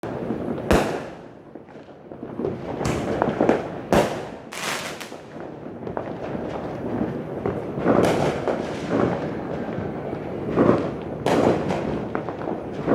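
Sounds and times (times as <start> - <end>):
fireworks bangs: 0.0 - 12.9
fireworks crackle: 0.0 - 12.9.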